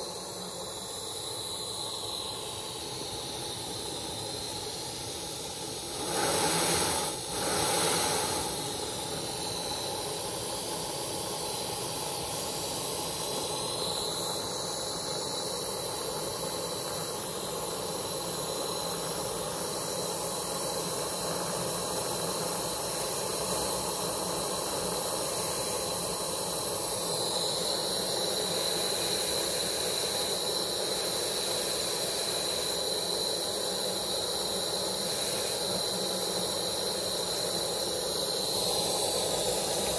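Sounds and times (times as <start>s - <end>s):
steam hissing: 0.0s - 39.9s
steam surges: 0.0s - 39.9s.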